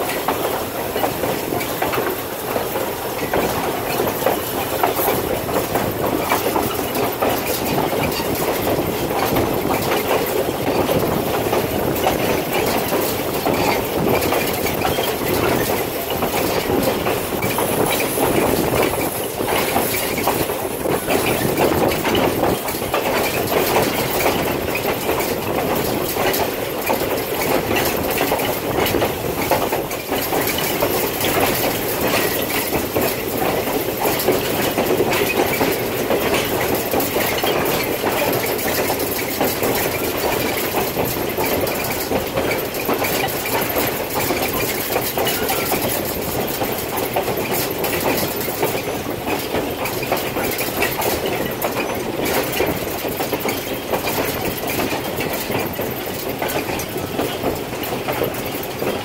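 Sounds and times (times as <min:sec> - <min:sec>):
train car rumble and rattle: 0:00.0 - 0:59.0
wheels clacking on rails: 0:00.0 - 0:59.0.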